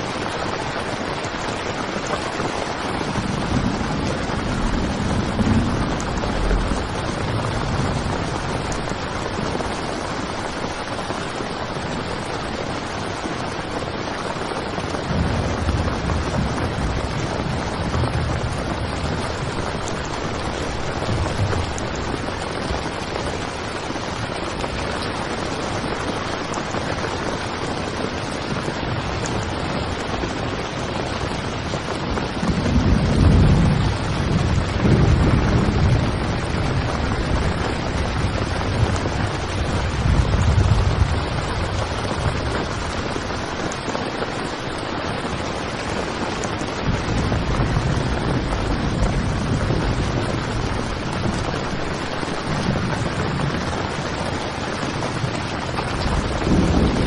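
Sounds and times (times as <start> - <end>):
heavy rain drumming on tent: 0.0 - 57.0.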